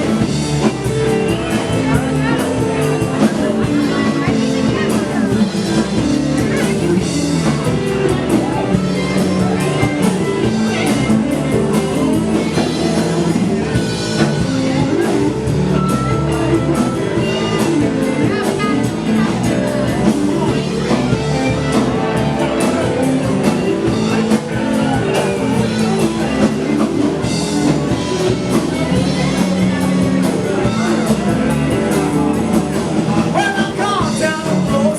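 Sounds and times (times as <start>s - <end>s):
blues-rock band playing: 0.0s - 34.9s
drum kit: 0.0s - 34.9s
electric guitar: 0.0s - 34.9s.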